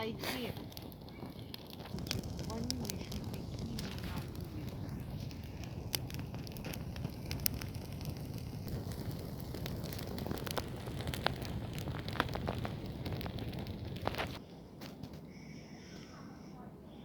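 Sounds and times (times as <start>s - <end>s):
fire crackles and pops: 0.0s - 15.3s
flames burning: 0.0s - 15.3s.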